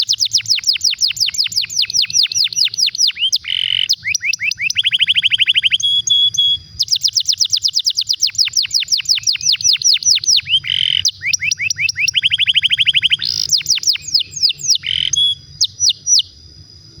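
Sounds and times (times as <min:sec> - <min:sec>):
canary singing trills: 0:00.0 - 0:16.4.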